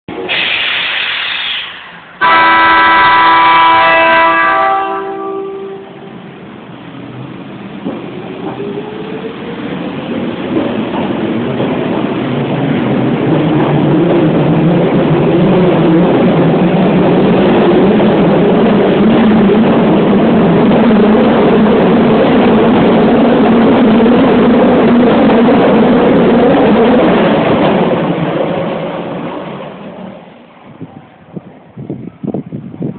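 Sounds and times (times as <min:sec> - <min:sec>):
subway train running past: 0:00.1 - 0:32.9.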